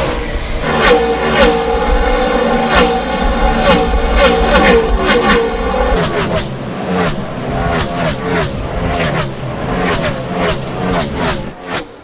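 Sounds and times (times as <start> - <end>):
race car engines: 0.0 - 12.0.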